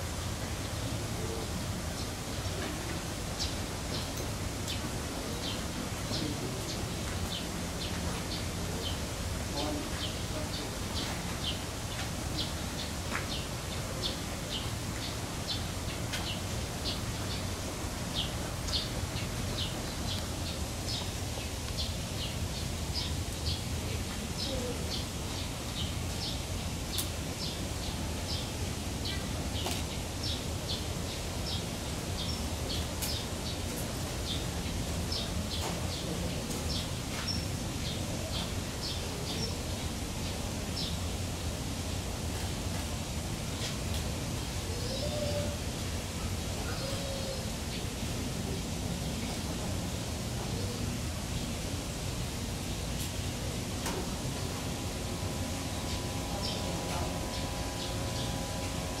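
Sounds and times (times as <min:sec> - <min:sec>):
low background hum: 0:00.0 - 0:59.0.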